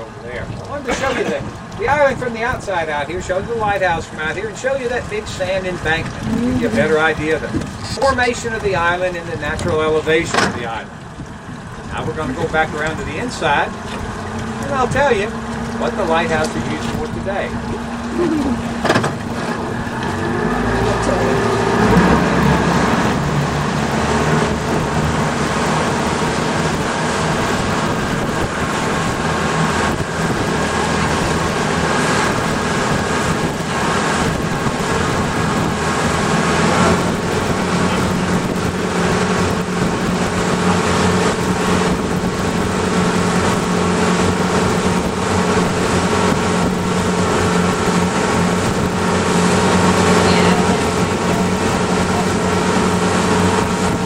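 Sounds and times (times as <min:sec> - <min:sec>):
boat motor running: 0:00.0 - 0:54.0
wind and water rushing: 0:00.0 - 0:54.0.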